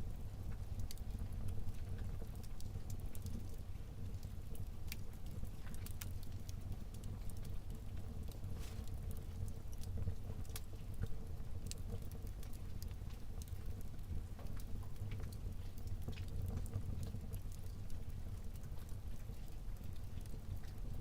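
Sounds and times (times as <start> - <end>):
burning logs crackling and popping: 0.0 - 21.0
fire flames rumbling: 0.0 - 21.0.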